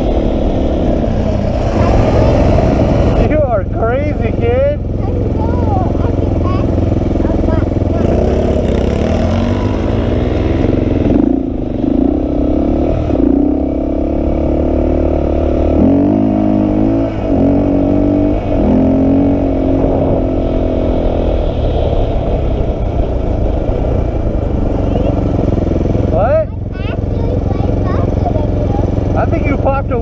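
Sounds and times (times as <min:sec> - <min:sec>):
quad engine revving: 0:00.0 - 0:30.0.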